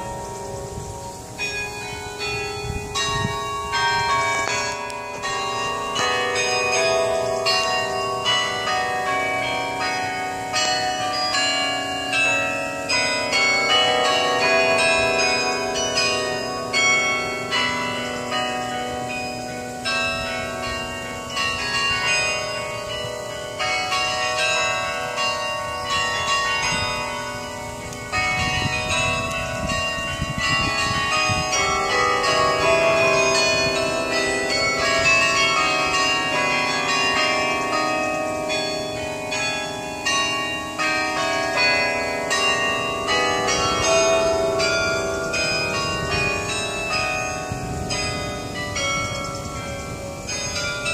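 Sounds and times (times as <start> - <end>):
carillon bells playing a tune: 0.0 - 50.9.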